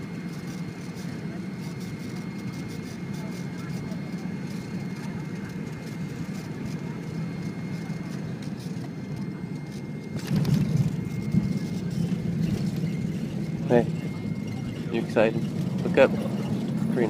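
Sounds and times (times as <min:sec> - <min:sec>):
airliner cabin engine hum: 0:00.0 - 0:17.0.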